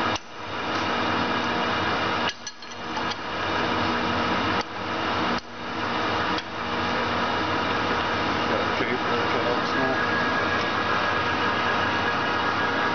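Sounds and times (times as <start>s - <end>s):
machine shop hum: 0.0s - 12.9s.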